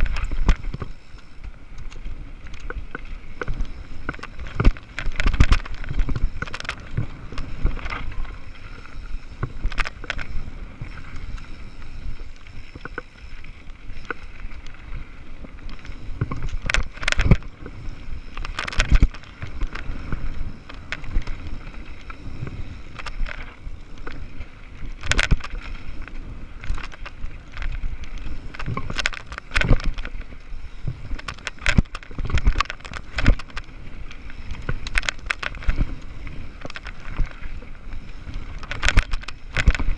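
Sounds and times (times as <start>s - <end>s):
bike knocking and rattling: 0.0s - 14.7s, 15.4s - 39.9s.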